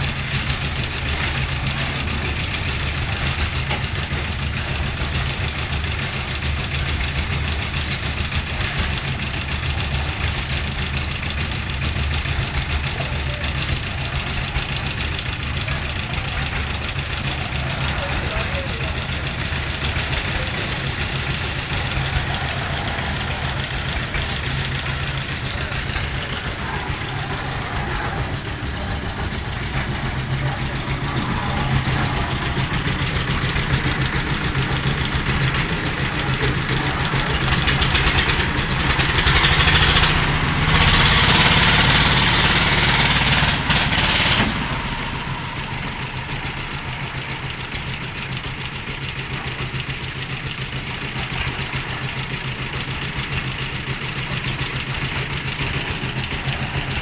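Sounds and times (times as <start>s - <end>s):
concrete mixer engine running: 0.0s - 57.0s.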